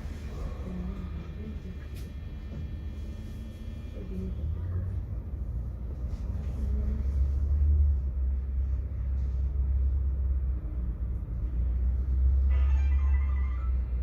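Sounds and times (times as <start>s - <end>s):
tram rumbling on track: 0.0s - 12.8s.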